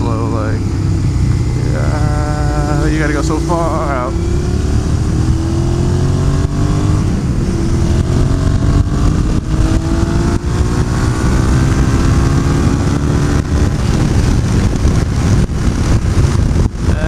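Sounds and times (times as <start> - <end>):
motorcycle engine accelerating: 0.0 - 17.0
wind rumble on microphone: 0.0 - 17.0.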